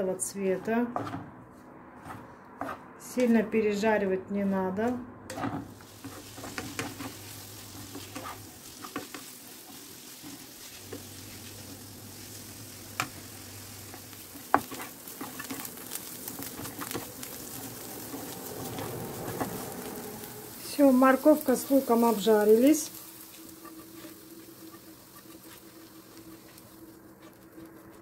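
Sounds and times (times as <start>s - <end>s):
wooden spatula scraping a pan: 0.4s - 2.9s, 5.3s - 28.0s
vegetables sizzling in a frying pan: 5.4s - 28.0s.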